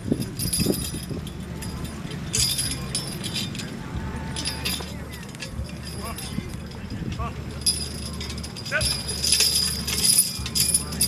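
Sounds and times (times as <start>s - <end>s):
harness chains jingling: 0.0s - 11.0s
low steady rumble: 0.0s - 11.0s.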